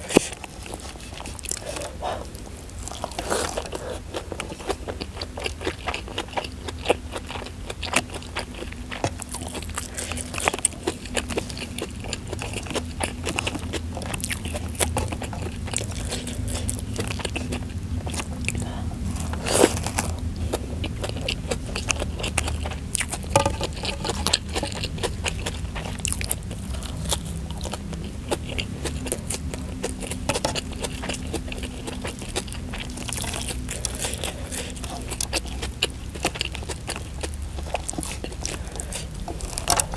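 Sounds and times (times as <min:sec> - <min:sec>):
close chewing and crunching: 0:00.0 - 0:39.9.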